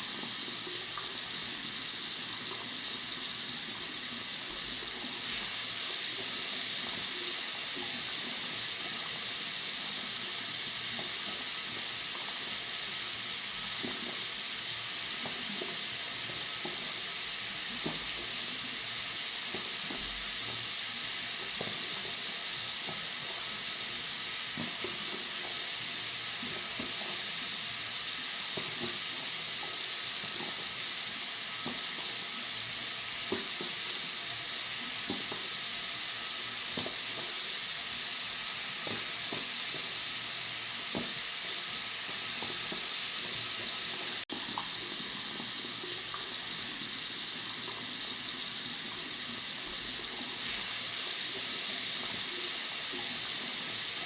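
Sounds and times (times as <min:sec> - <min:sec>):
tap water running into sink: 0:00.0 - 0:54.0
water splashes and drips: 0:10.3 - 0:54.0.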